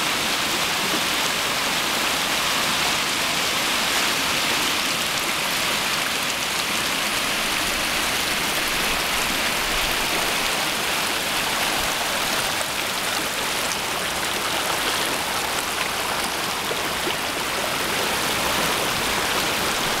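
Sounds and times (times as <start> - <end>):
creek water rushing over rock: 0.0 - 20.0.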